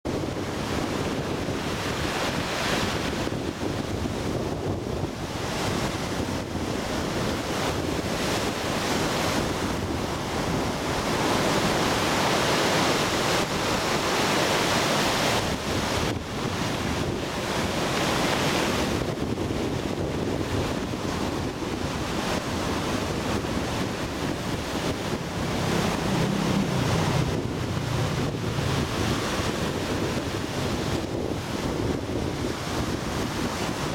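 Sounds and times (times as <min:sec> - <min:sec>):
wind on microphone: 0:00.0 - 0:33.9
sea waves breaking on shore: 0:00.1 - 0:33.9.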